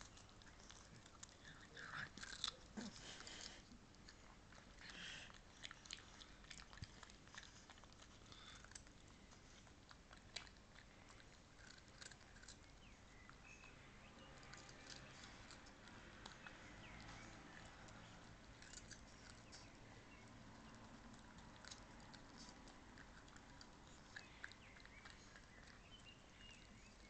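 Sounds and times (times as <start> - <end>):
dog crunching carrot: 0.0 - 27.0.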